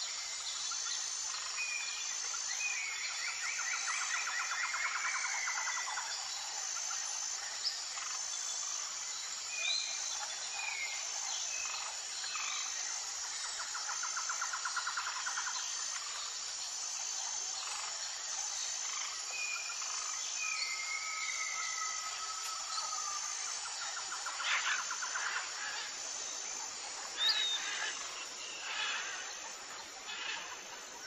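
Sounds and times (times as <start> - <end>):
insect chorus: 0.0 - 31.0.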